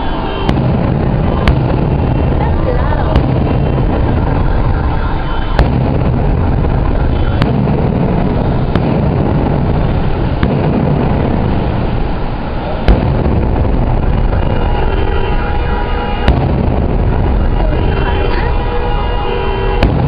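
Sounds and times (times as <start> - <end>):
fireworks bangs: 0.0 - 20.0
rumble of firework bursts: 0.0 - 20.0.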